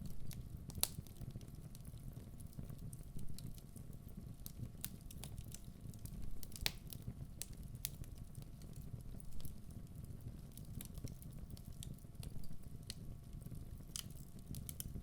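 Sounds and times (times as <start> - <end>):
fire crackles and pops: 0.0 - 15.0.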